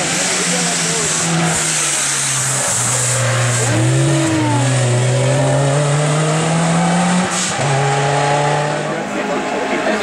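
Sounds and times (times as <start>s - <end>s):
race car engine accelerating: 0.0s - 10.0s.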